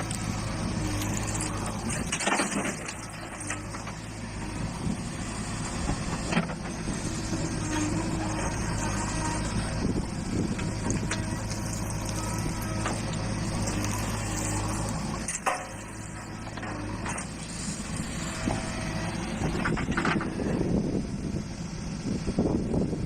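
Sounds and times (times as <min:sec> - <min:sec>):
machinery clatter: 0:00.0 - 0:20.6
heavy diesel machinery running: 0:00.0 - 0:23.0.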